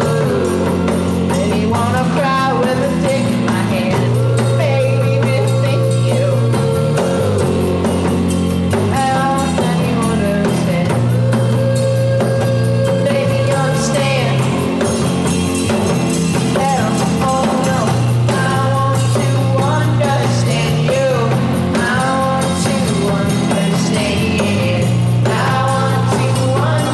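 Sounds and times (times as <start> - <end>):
person singing: 0.0 - 8.0, 8.8 - 14.9, 16.5 - 26.9
drums: 0.0 - 26.9
indie rock song: 0.0 - 26.9.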